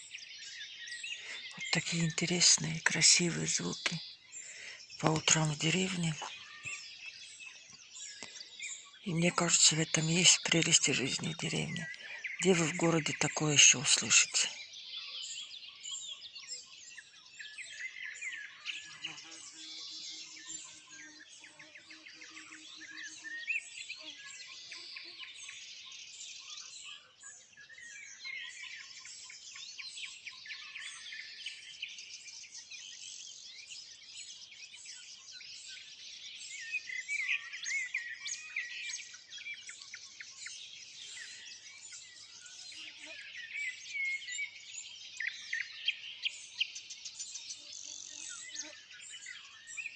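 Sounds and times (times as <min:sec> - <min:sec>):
songbirds singing: 0:00.0 - 0:49.9.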